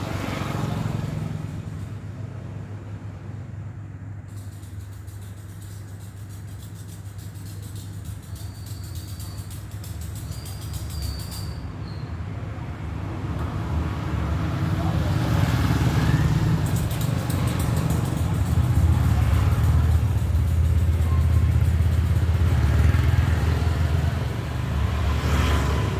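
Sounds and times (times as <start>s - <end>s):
vehicle passing with engine rumble: 0.0s - 25.9s.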